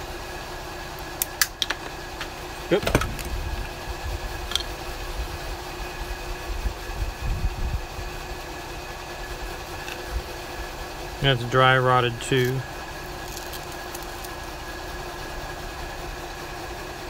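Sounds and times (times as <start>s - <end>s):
low mechanical rumble and hum: 0.0s - 17.0s.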